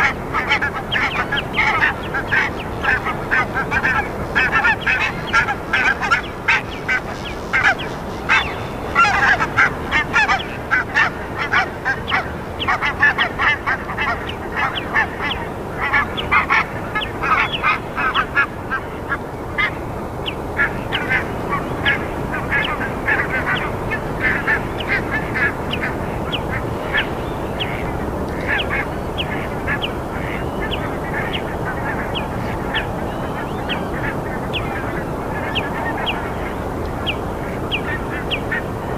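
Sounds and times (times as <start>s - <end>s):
birds honking: 0.0s - 38.9s
steady background hiss: 0.0s - 38.9s.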